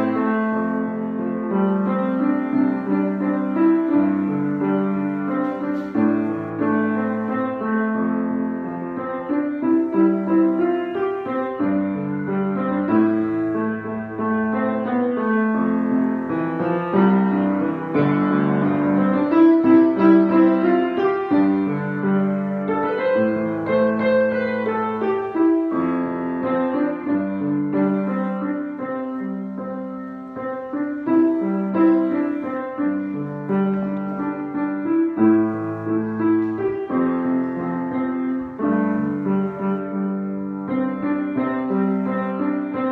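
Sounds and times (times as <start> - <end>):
piano piece: 0.0 - 42.9.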